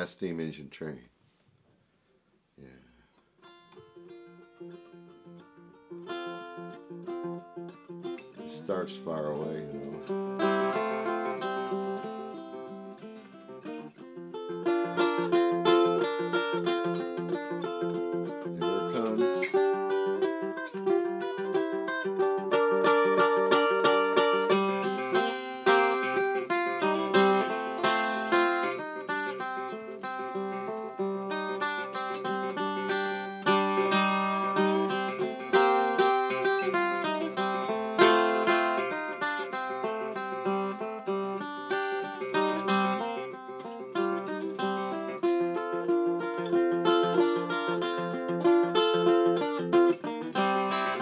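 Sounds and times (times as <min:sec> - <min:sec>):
fingerstyle tenor guitar: 0:02.6 - 0:51.0
guitar string slide: 0:07.0 - 0:51.0.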